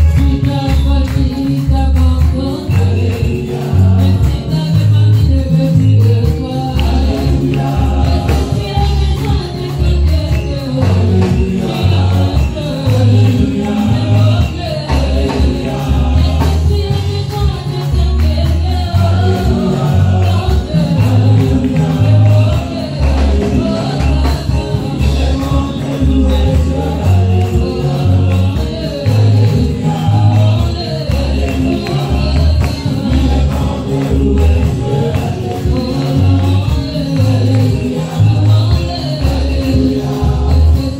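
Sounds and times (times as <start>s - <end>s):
heavy bass line: 0.0s - 40.9s
keyboard: 0.0s - 40.9s
light percussion: 0.0s - 40.9s
singers on microphones: 0.0s - 40.9s.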